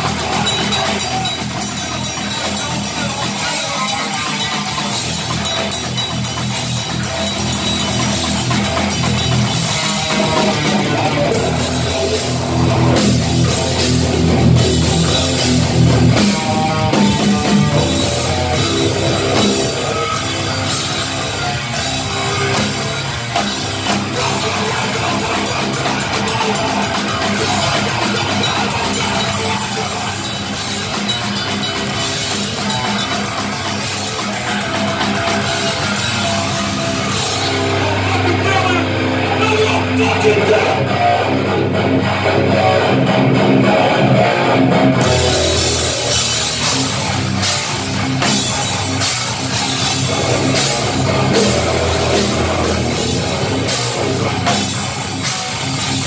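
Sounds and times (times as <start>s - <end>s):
bass guitar: 0.0s - 56.0s
distorted electric guitar: 0.0s - 56.0s
drum kit: 0.0s - 56.0s.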